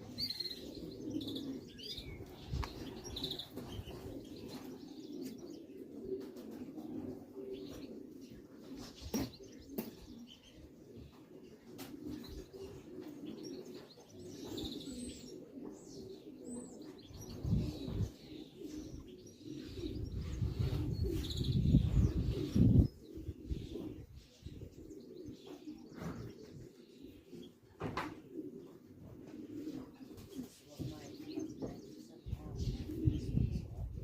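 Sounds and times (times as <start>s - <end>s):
small birds chirping: 0.0s - 6.2s, 7.4s - 27.8s, 28.6s - 34.0s
pigeons cooing: 0.0s - 34.0s.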